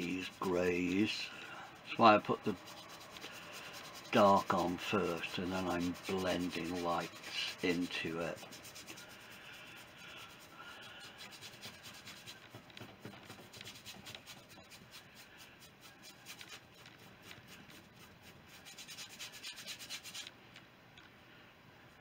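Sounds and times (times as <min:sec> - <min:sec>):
paintbrush scratching on board: 0:00.0 - 0:20.3.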